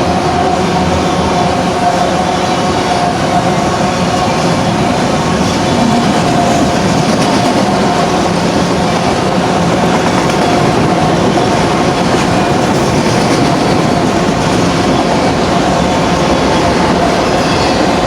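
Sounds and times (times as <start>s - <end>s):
train wheels clattering on rail: 0.0s - 18.0s.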